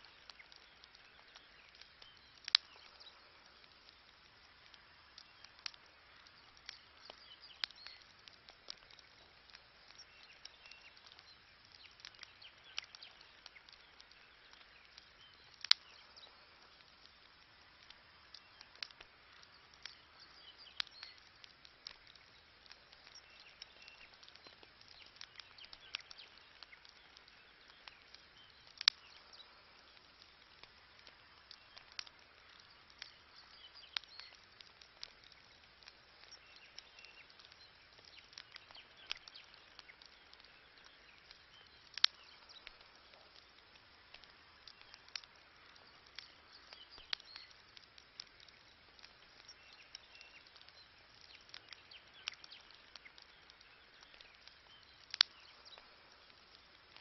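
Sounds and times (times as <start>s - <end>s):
campfire crackling: 0.0s - 57.0s
faint hiss: 0.0s - 57.0s
sharp fire pops: 0.0s - 57.0s.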